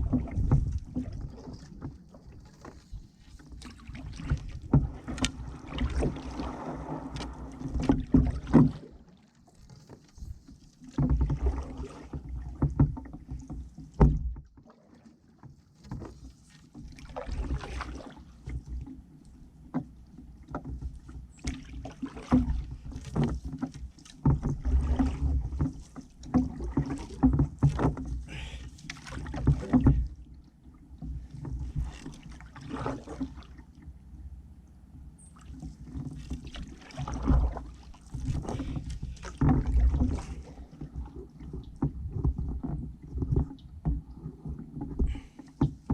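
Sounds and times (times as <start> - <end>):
water splashes and drips: 0.0 - 19.0, 19.7 - 33.8, 35.4 - 45.9
paddle strokes in water: 0.0 - 45.9.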